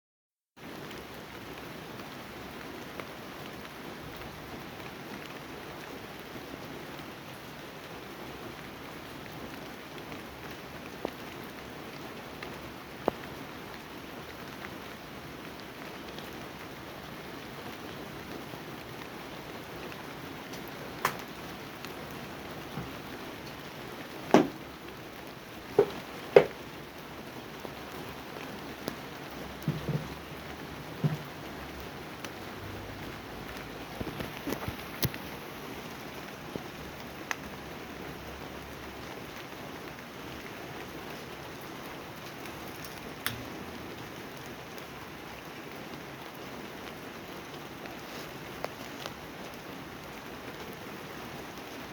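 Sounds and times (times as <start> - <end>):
steady rain falling: 0.6 - 51.9.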